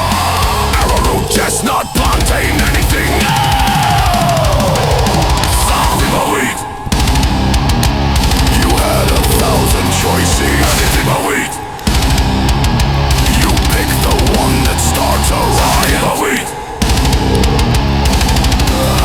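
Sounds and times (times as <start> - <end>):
pounding drum kit: 0.0 - 16.2, 16.8 - 19.0
heavy rock song: 0.0 - 19.0.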